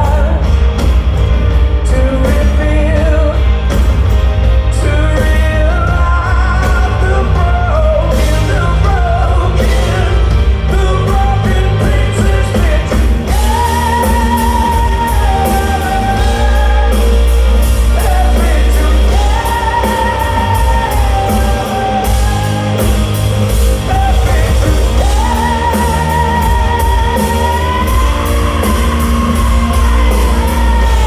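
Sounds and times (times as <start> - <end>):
live rock band playing loudly: 0.0 - 31.0.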